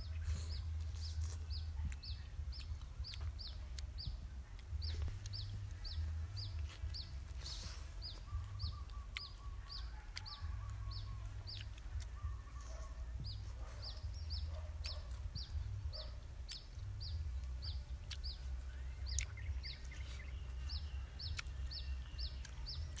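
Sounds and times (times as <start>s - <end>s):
chickens clucking: 0.0s - 23.0s
low rumble: 0.0s - 23.0s
small bird chirping: 0.0s - 23.0s.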